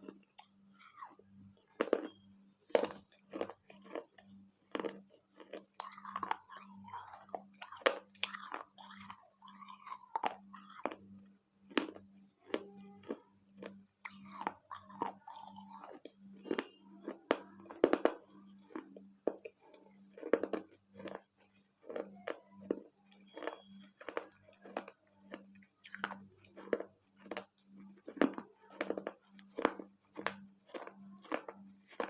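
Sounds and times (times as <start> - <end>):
crunching and chewing clay pieces: 0.0 - 32.0.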